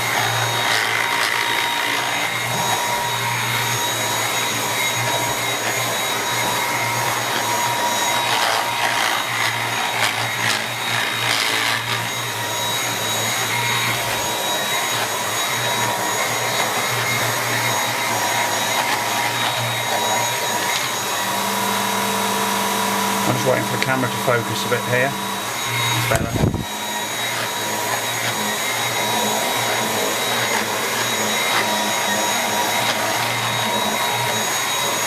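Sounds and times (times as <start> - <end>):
vacuum cleaner motor whine: 0.0 - 35.0.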